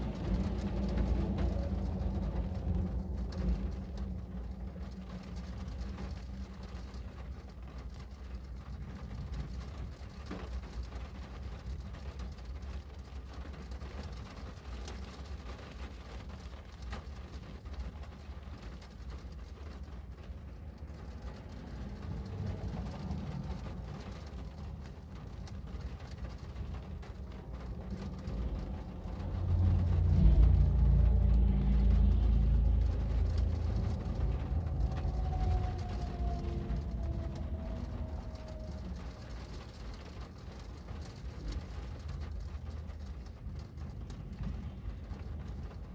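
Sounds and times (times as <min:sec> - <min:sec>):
passing vehicle rumble: 0:00.0 - 0:45.9
steady rain: 0:00.0 - 0:45.9.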